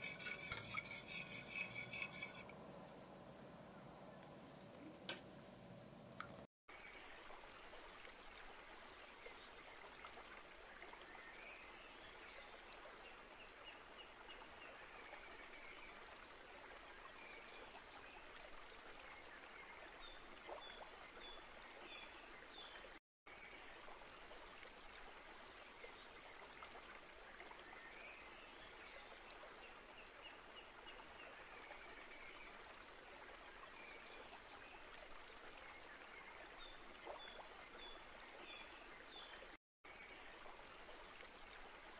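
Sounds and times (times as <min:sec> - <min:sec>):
stream water flowing: 0:00.0 - 0:03.3, 0:05.9 - 0:41.9.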